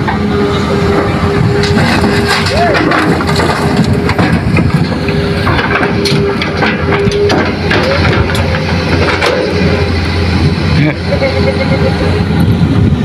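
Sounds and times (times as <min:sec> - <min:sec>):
excavator diesel engine running: 0:00.0 - 0:13.0
whine: 0:00.0 - 0:13.0.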